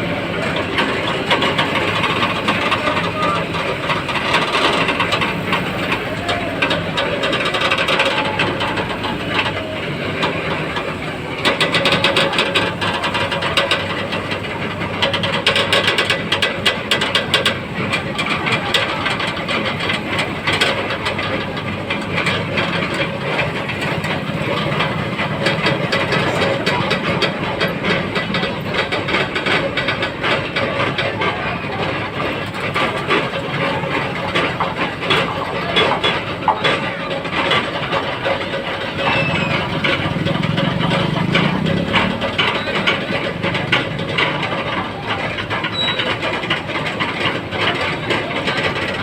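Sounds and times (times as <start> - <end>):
diesel engine running: 0.0 - 49.0
fast clattering rattles: 0.0 - 49.0.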